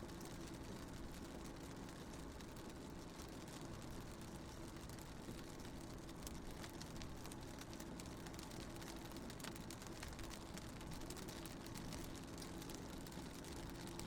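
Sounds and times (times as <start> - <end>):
raindrops tapping on car window: 0.7 - 14.0.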